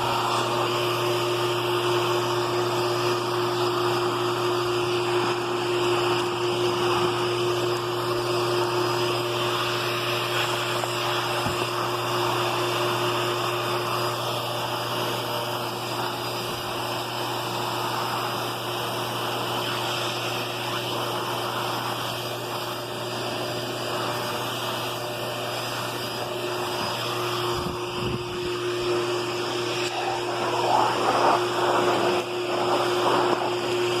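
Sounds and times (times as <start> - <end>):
vacuum cleaner motor running: 0.0 - 34.0.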